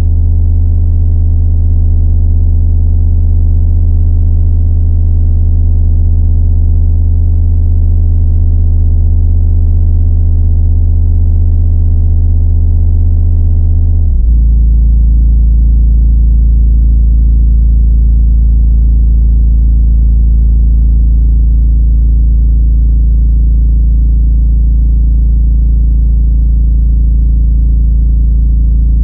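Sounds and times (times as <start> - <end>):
deep electronic drone tone: 0.0 - 29.0.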